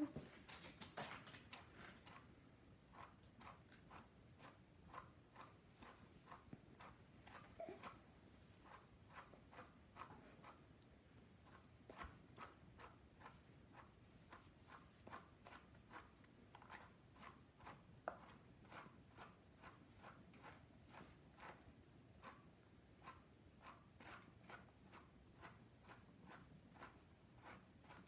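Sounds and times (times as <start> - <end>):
brush scratching through dog fur: 0.3 - 2.3, 2.9 - 28.0.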